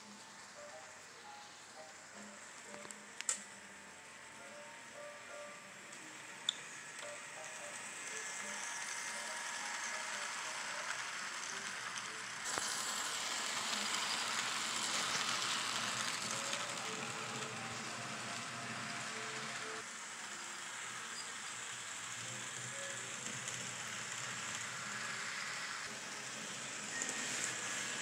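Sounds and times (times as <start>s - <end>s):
model train wheels and motor rattling: 0.0s - 28.0s.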